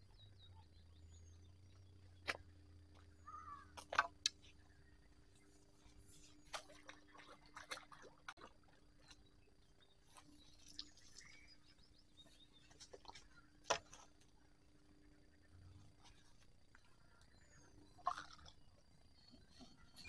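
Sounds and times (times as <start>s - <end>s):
faint bird chirps: 0.0s - 8.0s, 8.9s - 20.0s.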